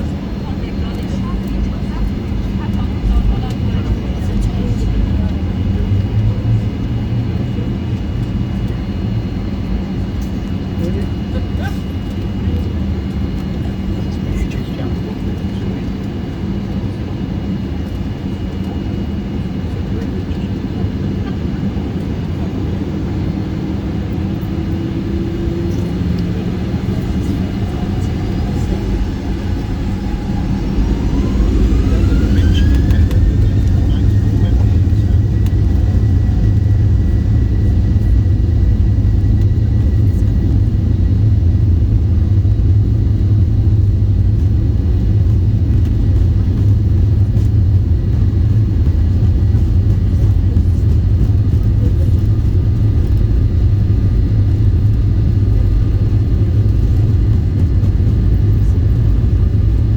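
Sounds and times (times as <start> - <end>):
jet engine whine rising: 0.0 - 59.9
loud low engine rumble: 0.0 - 59.9.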